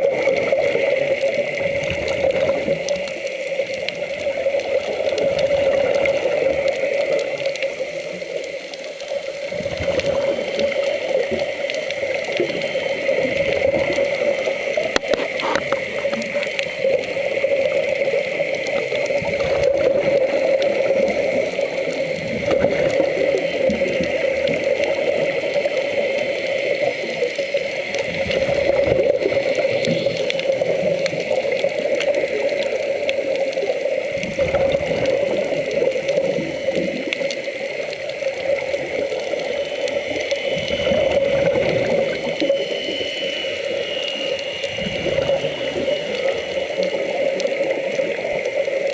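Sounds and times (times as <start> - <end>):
water rushing and gurgling: 0.0 - 48.9.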